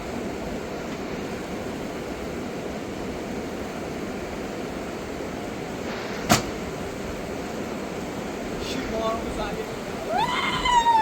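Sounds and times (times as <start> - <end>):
steady rushing noise: 0.1 - 11.0.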